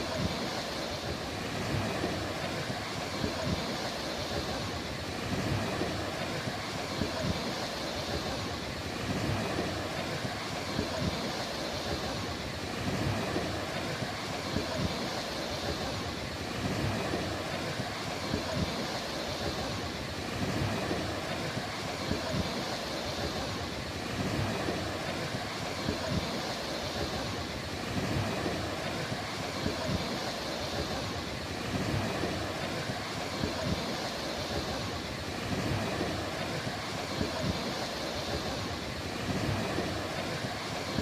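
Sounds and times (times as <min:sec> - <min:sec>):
sea waves washing on beach: 0:00.0 - 0:41.0
wind rumble on microphone: 0:00.0 - 0:41.0.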